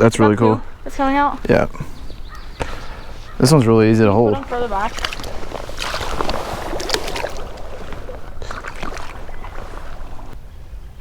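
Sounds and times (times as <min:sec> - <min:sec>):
creek water splashing: 0:00.0 - 0:10.4.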